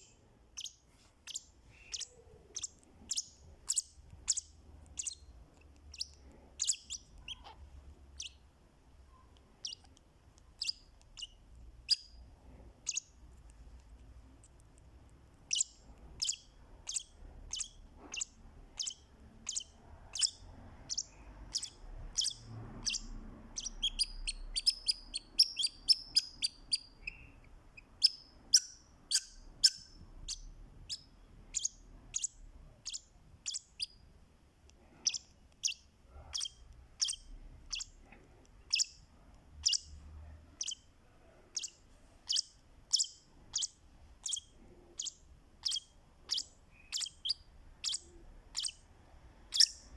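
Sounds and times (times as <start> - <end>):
lovebird chirping: 0.0 - 13.2, 15.4 - 34.1, 35.0 - 38.0, 38.6 - 49.9.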